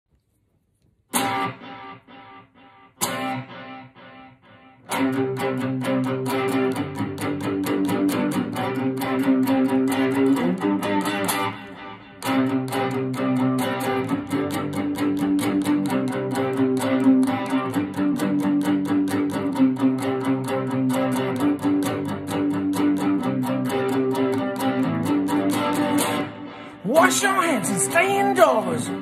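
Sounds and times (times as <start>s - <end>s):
electric guitar strumming: 1.1s - 29.0s
electric guitar chord ringing: 1.2s - 29.0s.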